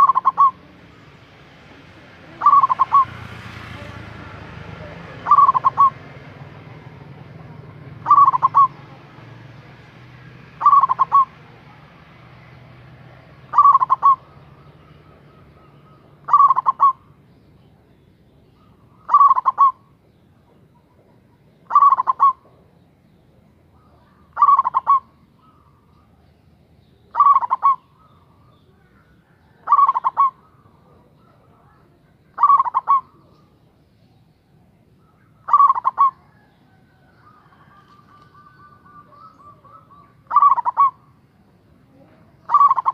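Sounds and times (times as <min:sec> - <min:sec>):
dove cooing: 0:00.0 - 0:12.0, 0:13.2 - 0:26.2, 0:27.0 - 0:42.9.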